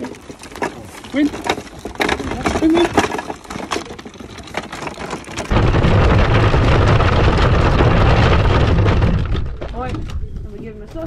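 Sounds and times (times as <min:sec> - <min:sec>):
cart wheels rumbling on gravel: 0:00.0 - 0:11.0.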